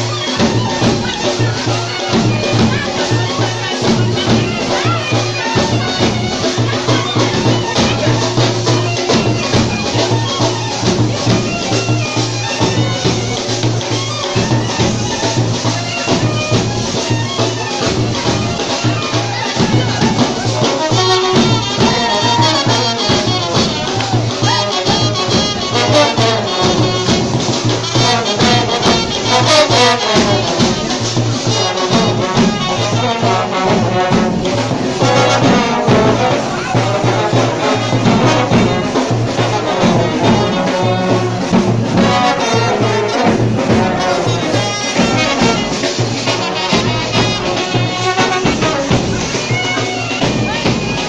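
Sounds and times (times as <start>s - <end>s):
dance music with brass horns: 0.0s - 51.0s.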